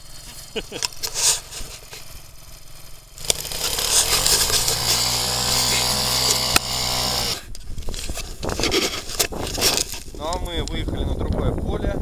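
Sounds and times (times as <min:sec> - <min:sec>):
small engine revving: 0:00.0 - 0:10.6.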